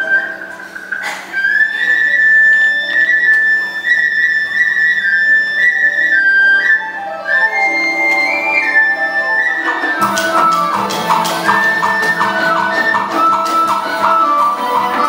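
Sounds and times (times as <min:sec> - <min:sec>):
flute long high notes: 0:00.0 - 0:15.0
low accompaniment: 0:00.0 - 0:15.0.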